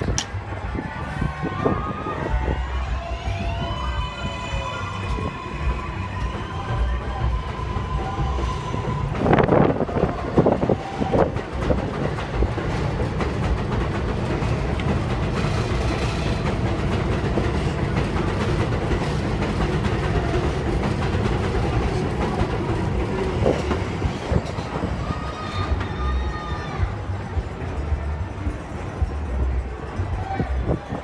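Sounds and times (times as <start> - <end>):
train wheels rumbling past: 0.0 - 31.0.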